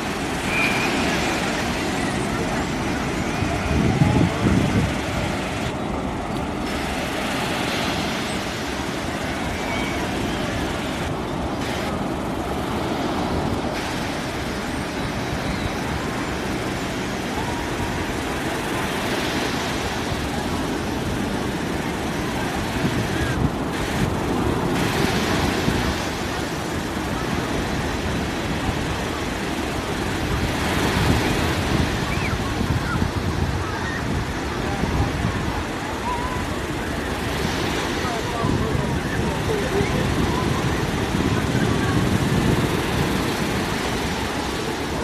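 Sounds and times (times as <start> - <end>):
crowd babble: 0.0 - 45.0.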